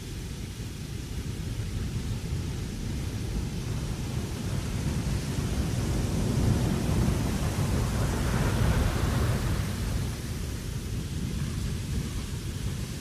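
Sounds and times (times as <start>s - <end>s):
wind blowing across deck: 0.0s - 13.0s.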